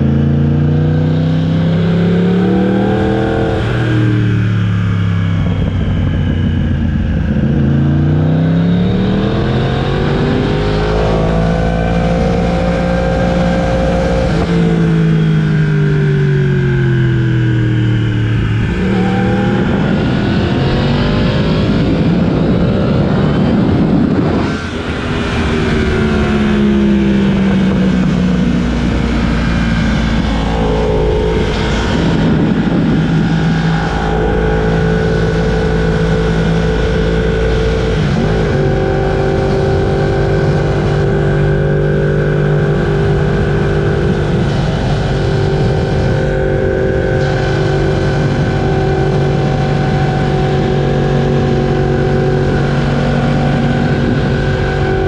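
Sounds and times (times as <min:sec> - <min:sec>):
motorcycle engine revving: 0:00.0 - 0:55.0
wind rumble: 0:00.0 - 0:55.0.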